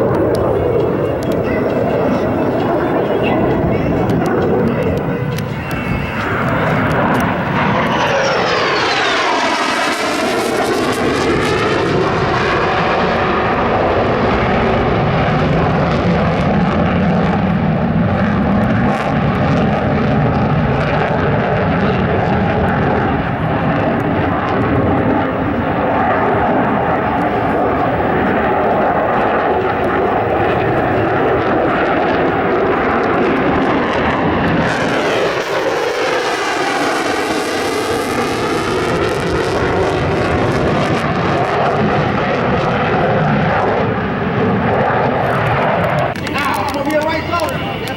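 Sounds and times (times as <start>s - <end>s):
jet engine roaring: 0.0s - 47.9s.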